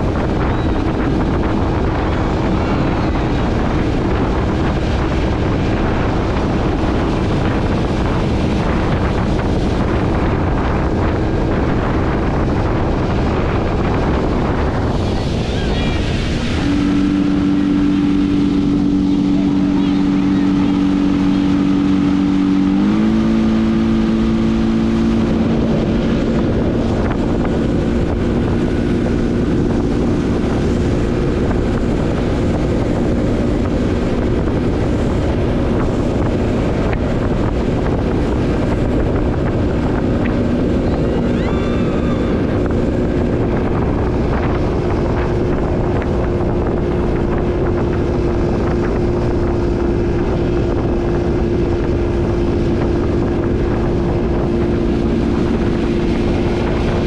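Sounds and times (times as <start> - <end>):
outboard motor running: 0.0 - 57.0
rushing water: 0.0 - 57.0
wind on microphone: 0.0 - 57.0.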